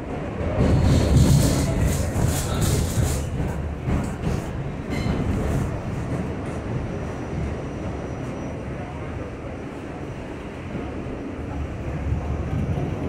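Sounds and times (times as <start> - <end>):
subway train rumbling and rattling: 0.0 - 13.0.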